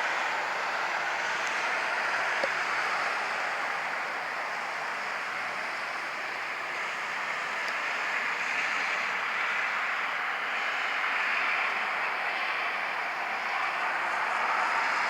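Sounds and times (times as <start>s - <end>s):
road traffic hiss: 0.0s - 15.0s.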